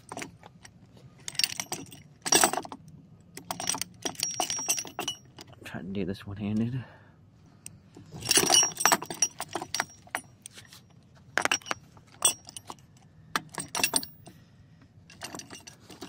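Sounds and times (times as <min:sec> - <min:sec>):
metal clinks and rattles: 0:00.0 - 0:05.6, 0:08.0 - 0:14.4, 0:15.1 - 0:16.0.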